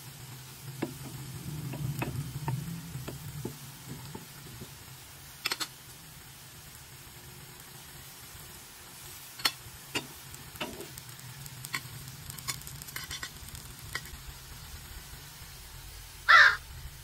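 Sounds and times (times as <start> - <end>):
rice patties sizzling in oil: 0.0 - 17.0.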